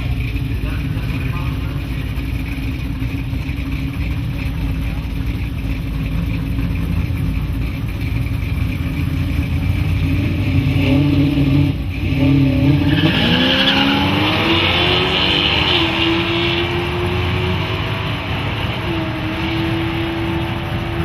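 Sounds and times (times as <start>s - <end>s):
car engines revving and accelerating: 0.0s - 21.0s.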